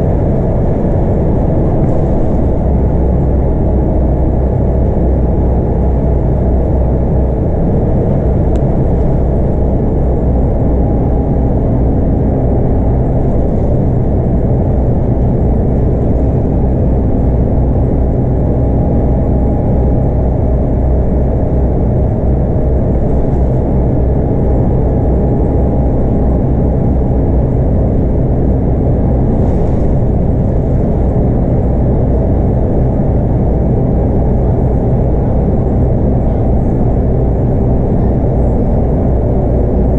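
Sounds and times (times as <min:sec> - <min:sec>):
bus diesel engine running: 0:00.0 - 0:39.9
road and tyre rumble: 0:00.0 - 0:39.9.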